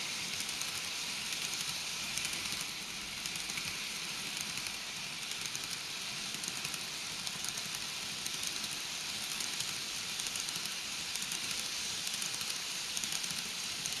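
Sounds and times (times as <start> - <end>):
model train rattling on track: 0.0 - 14.0.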